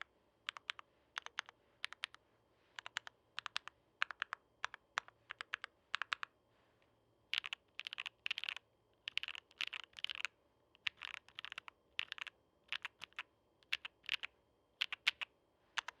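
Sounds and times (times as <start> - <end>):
mechanical keyboard typing: 0.0 - 2.2, 2.8 - 6.3, 7.3 - 16.0.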